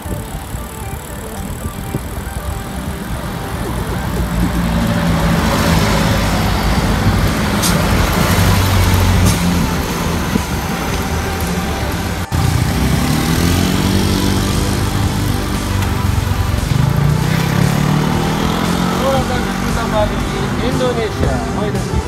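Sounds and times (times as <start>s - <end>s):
motor vehicle engines running: 0.0s - 22.0s
road noise: 0.0s - 22.0s.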